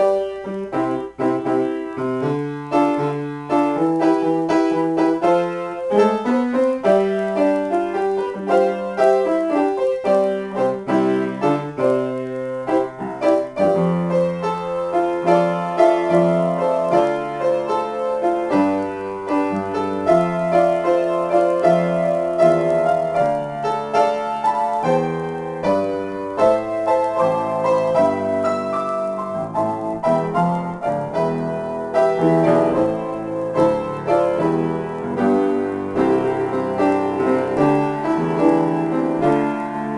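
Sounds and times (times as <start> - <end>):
solo grand piano improvisation: 0.0 - 39.9.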